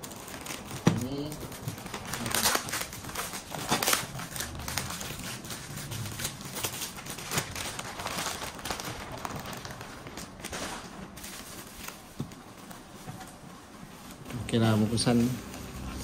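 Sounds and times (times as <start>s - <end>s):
parcel wrapping crinkling: 0.0s - 16.0s.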